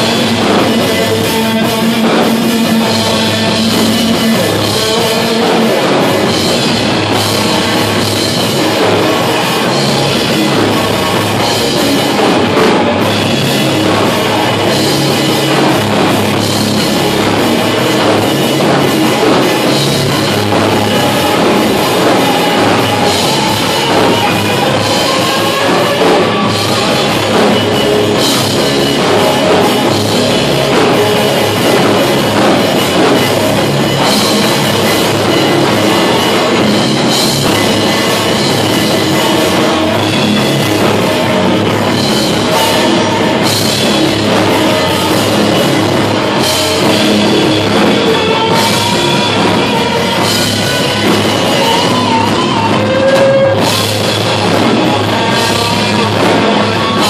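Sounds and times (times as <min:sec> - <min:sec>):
bass guitar: 0:00.0 - 0:57.0
distorted electric guitars: 0:00.0 - 0:57.0
drum kit with cymbal crashes: 0:00.0 - 0:57.0.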